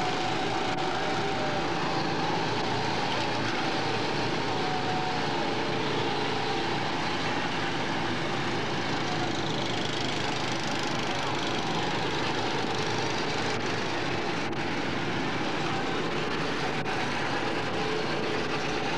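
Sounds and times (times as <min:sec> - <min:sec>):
go-kart engines droning: 0:00.0 - 0:18.9.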